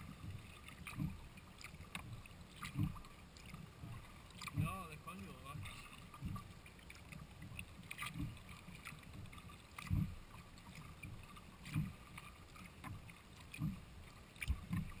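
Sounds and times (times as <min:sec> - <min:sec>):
paddle blades dipping in water: 0:00.0 - 0:15.0
water splashing and dripping: 0:00.0 - 0:15.0.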